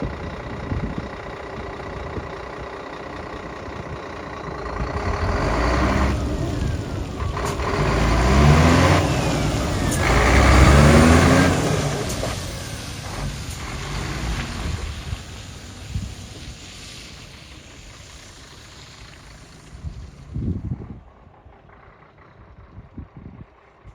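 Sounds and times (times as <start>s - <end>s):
diesel truck engine revving: 0.0s - 23.9s.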